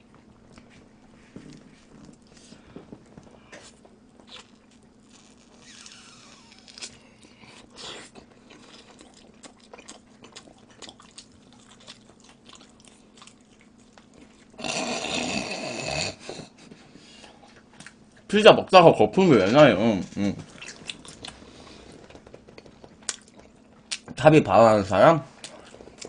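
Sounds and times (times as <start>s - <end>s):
biting and chewing pizza: 0.1s - 18.3s, 19.4s - 24.2s, 25.3s - 26.0s.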